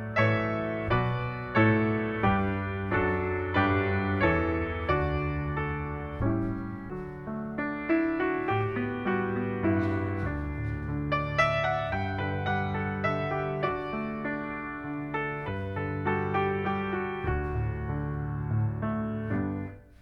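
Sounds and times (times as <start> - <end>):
slow gentle solo piano: 0.0 - 20.0.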